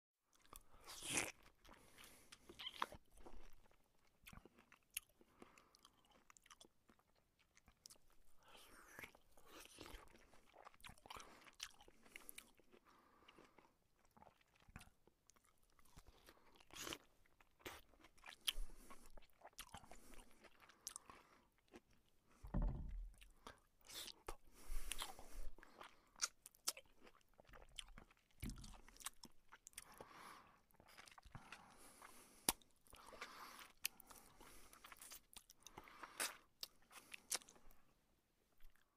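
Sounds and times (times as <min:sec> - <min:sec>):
person chewing and crunching: 0:00.3 - 0:37.9, 0:38.6 - 0:38.9.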